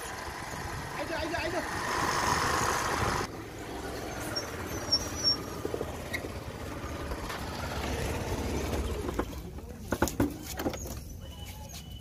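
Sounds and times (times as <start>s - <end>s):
motor scooter running: 0.0s - 9.6s.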